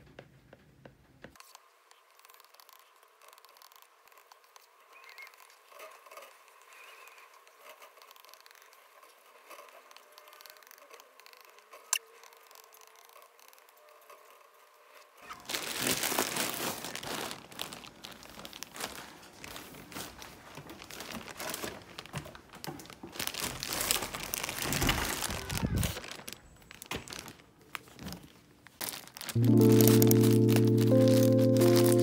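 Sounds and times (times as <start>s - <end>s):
crinkling and crumpling: 1.4s - 32.0s.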